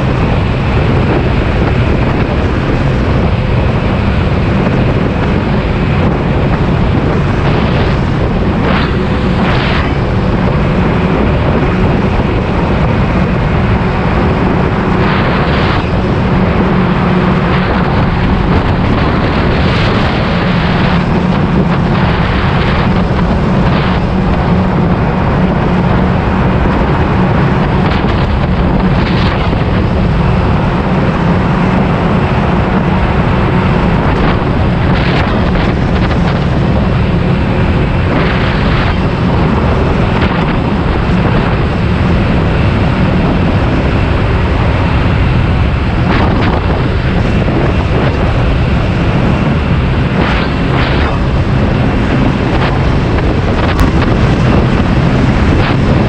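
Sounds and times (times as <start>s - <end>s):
scooter engine hum: 0.0s - 56.0s
wind rush on microphone: 0.0s - 56.0s.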